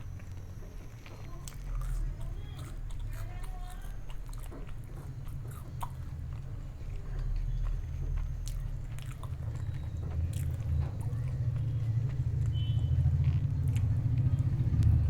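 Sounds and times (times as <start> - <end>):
chewing and biting: 0.0 - 15.0.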